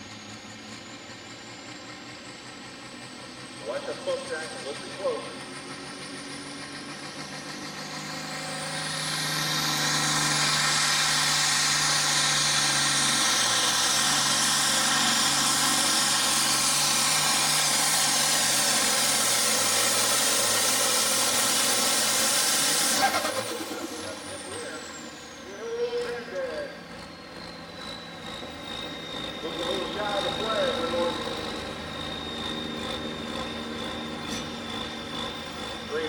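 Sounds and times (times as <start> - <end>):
tractor diesel engine at full throttle: 0.0 - 36.0.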